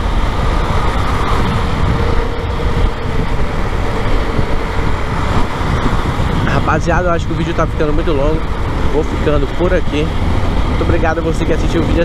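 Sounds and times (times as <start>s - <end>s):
motorcycle engine at road speed: 0.0s - 12.0s
surrounding car traffic: 0.0s - 12.0s
wind rumble on microphone: 0.0s - 12.0s.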